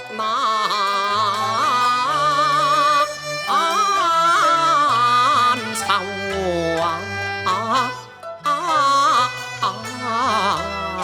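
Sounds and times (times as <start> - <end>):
traditional instrumental accompaniment: 0.0 - 11.0.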